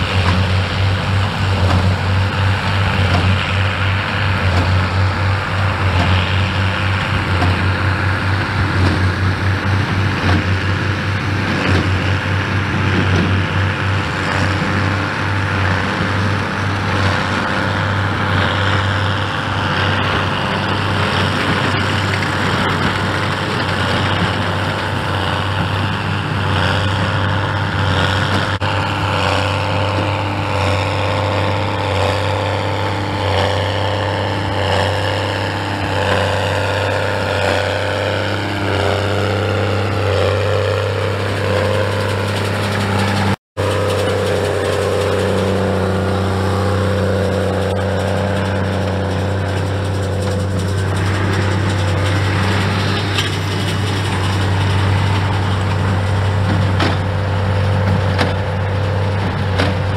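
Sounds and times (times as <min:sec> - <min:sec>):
tractor diesel engines under load: 0:00.0 - 0:59.9.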